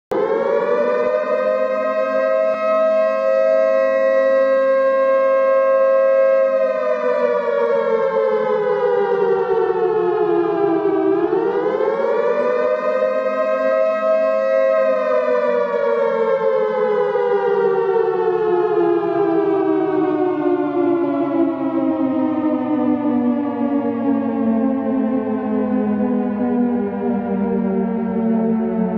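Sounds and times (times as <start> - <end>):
warning siren wailing: 0.1 - 28.9.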